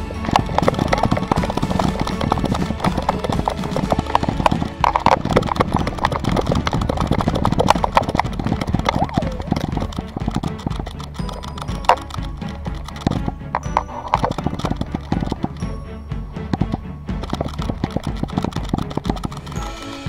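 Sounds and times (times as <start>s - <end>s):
camera thumping and rattling: 0.0s - 15.8s, 16.5s - 19.6s
dog paws pounding ground: 0.0s - 15.8s, 16.4s - 19.7s.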